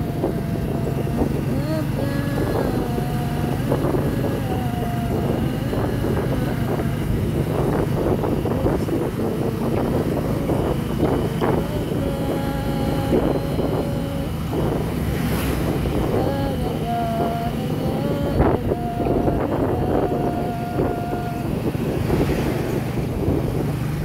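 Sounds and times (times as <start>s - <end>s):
road noise: 0.0s - 24.0s
vehicle engine: 0.0s - 24.0s
wind buffeting microphone: 0.0s - 24.0s.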